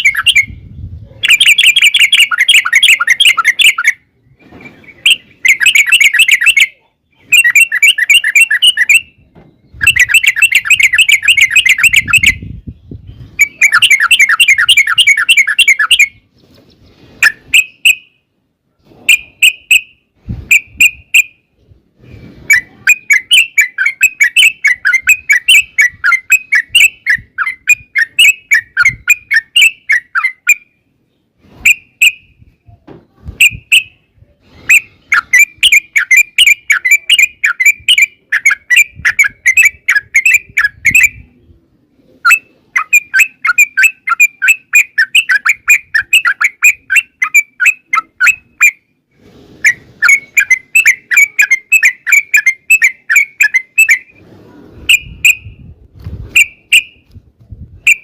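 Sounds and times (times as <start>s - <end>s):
bulbul chattering song: 0.0s - 4.2s, 4.8s - 16.2s, 17.2s - 18.4s, 19.1s - 21.6s, 22.4s - 31.0s, 33.4s - 41.5s, 42.1s - 49.0s, 49.6s - 54.2s.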